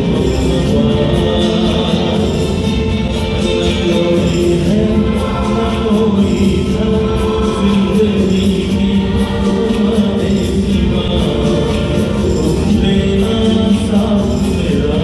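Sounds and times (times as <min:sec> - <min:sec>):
drum beat: 0:00.0 - 0:15.0
live band music: 0:00.0 - 0:15.0
man singing: 0:00.0 - 0:15.0.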